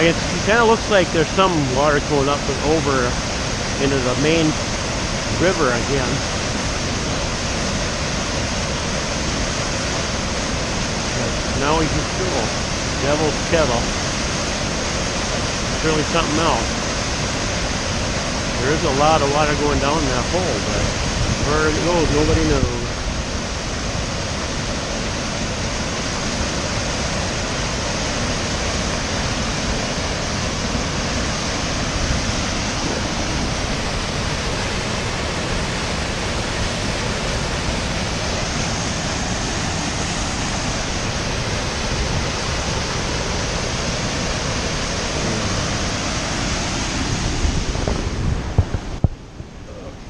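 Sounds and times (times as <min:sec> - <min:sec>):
waterfall roaring: 0:00.0 - 0:50.0.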